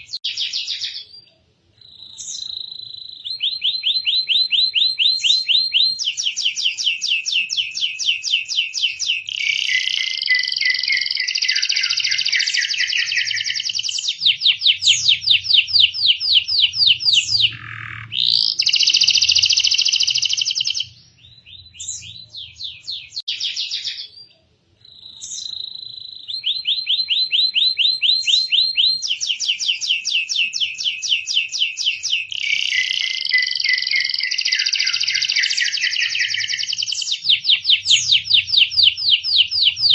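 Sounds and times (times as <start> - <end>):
canary singing rapid trills: 1.8 - 24.2, 24.8 - 39.9.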